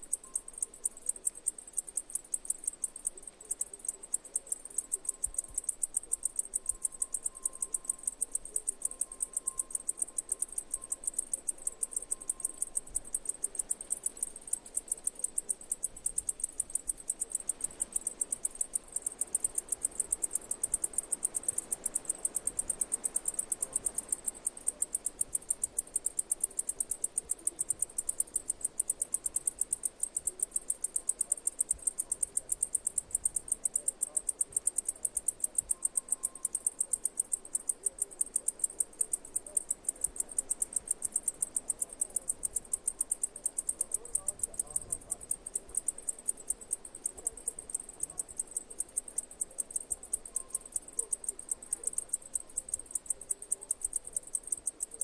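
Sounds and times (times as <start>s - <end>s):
insect chirping: 0.0s - 55.0s.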